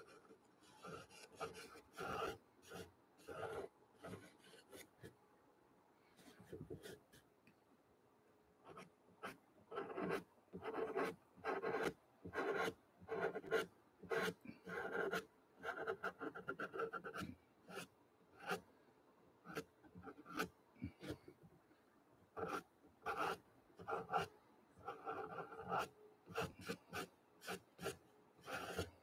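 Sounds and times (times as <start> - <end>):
pencil scratching on paper: 0.0 - 5.1, 8.6 - 18.7, 19.4 - 21.3, 22.4 - 29.0.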